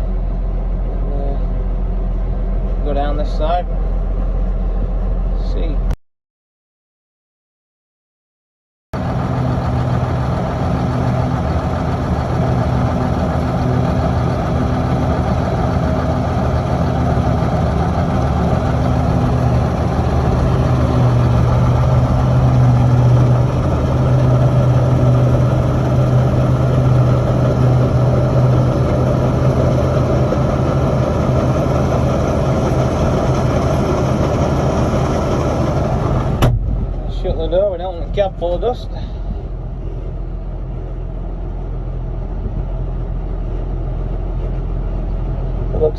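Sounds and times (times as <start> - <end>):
tractor diesel engine droning: 0.0 - 6.0, 9.0 - 45.9.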